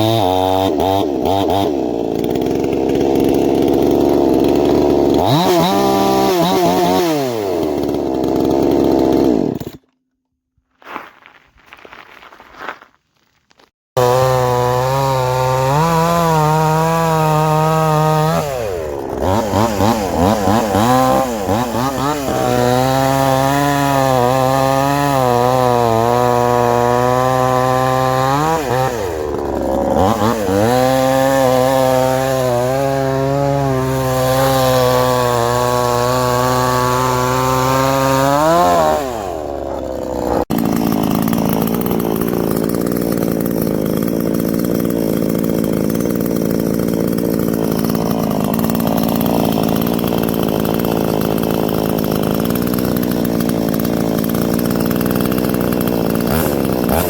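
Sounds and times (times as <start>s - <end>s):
chainsaw running at high revs: 0.0s - 10.0s, 14.0s - 57.0s
rough steady chainsaw: 0.0s - 10.2s, 14.0s - 57.0s.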